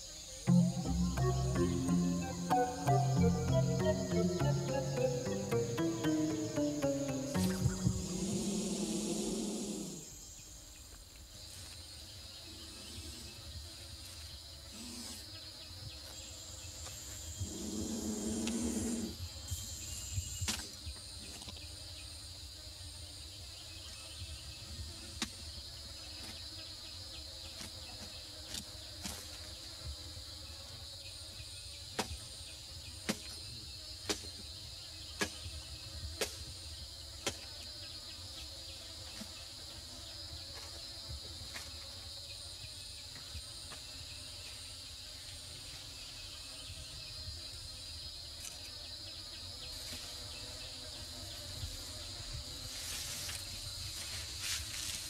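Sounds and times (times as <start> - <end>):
jungle insects droning: 0.0 - 55.0.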